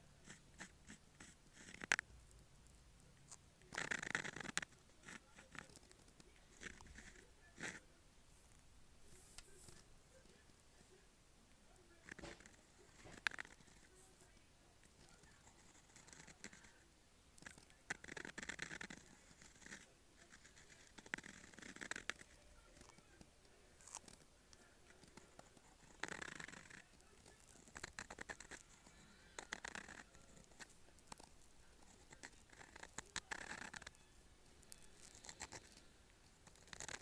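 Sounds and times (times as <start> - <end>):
pen nib scratching paper: 0.0 - 2.1, 3.3 - 10.4, 11.9 - 37.0.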